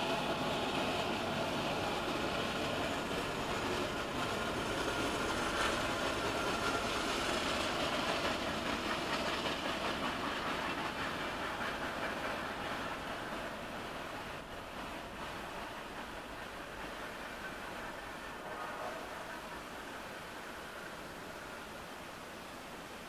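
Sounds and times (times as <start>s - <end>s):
freight train wheels on rail: 0.0s - 23.0s.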